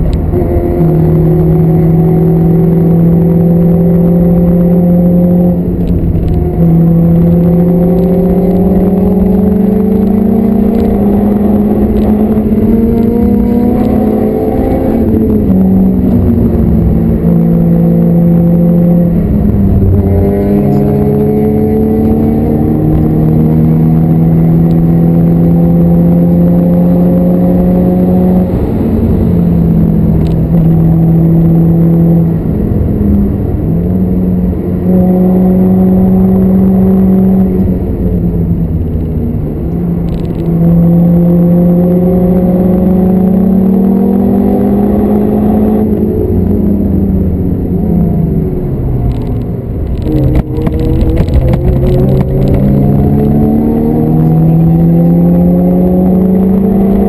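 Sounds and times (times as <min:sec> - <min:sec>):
car engine revving hard: 0:00.0 - 0:57.0
wind and road noise: 0:00.0 - 0:57.0.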